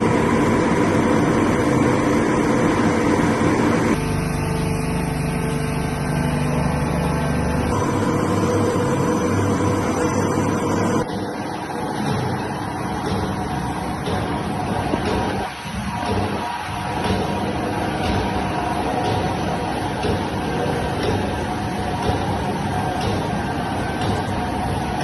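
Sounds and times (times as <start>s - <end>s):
machinery motor humming: 0.0s - 25.0s.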